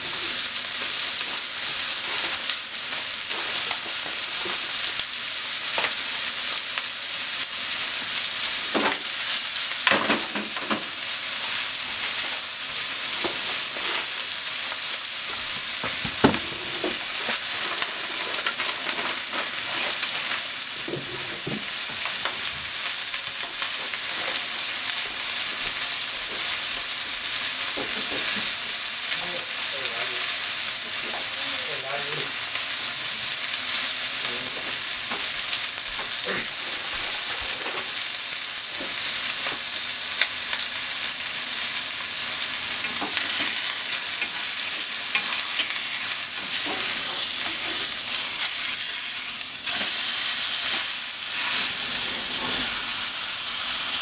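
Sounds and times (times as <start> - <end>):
chicken sizzling in a frying pan: 0.0 - 54.0.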